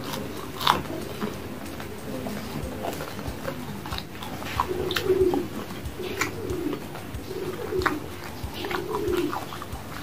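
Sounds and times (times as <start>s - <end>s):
crunchy chewing: 0.0s - 10.0s
low cooing hum: 0.0s - 10.0s.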